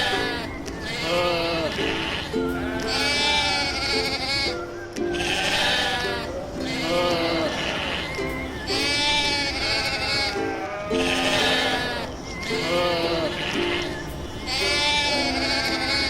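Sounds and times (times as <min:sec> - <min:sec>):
background music with held notes: 0:00.0 - 0:16.0
sheep or goats bleating: 0:00.0 - 0:16.0.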